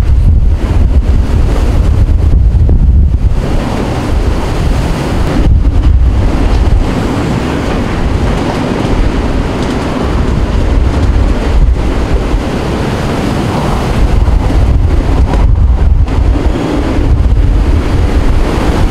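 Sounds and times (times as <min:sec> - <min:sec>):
strong wind buffeting microphone: 0:00.0 - 0:18.9.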